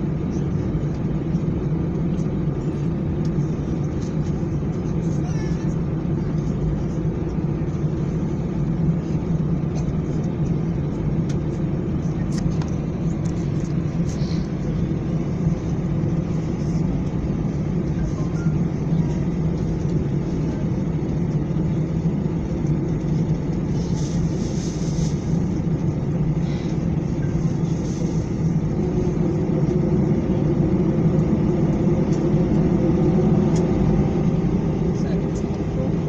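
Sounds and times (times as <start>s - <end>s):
jet engines at low power: 0.0s - 36.0s.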